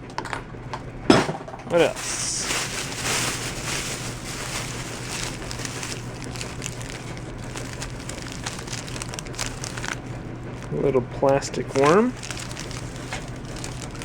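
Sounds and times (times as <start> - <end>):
steady low hum: 0.1 - 14.0
plastic packets crinkling: 1.8 - 14.0.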